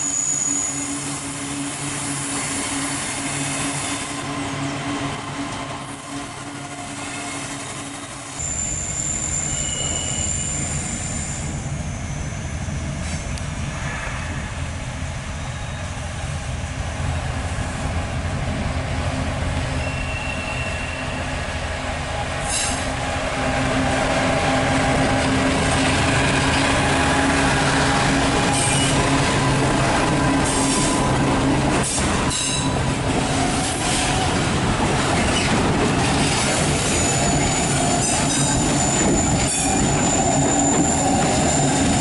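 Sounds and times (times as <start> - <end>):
steel wheels squealing on rails: 0.0 - 16.4, 19.6 - 34.4, 35.0 - 42.0
diesel locomotive drone: 0.0 - 42.0
rumble of train cars: 0.0 - 42.0.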